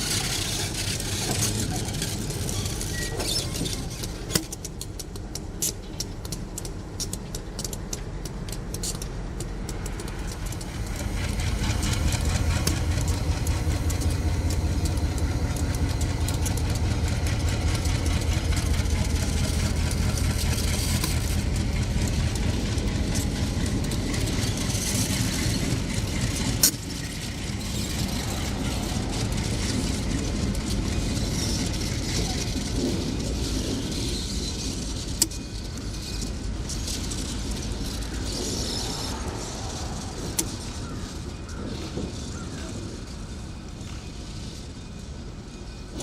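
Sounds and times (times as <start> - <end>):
diesel locomotive rumbling: 0.0 - 46.0.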